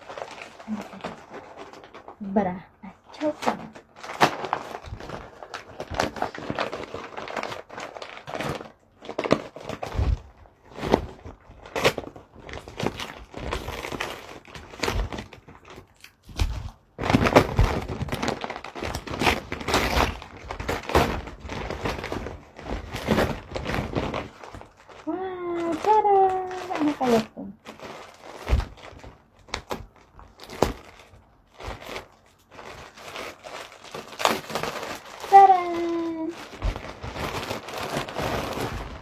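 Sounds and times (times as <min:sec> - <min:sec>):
wrapping paper tearing and crinkling: 0:00.0 - 0:02.4, 0:03.0 - 0:39.0.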